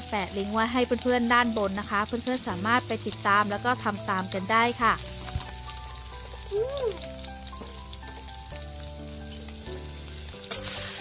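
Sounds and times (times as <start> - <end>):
pork sizzling in a wok: 0.0 - 11.0
soft background music: 0.0 - 11.0.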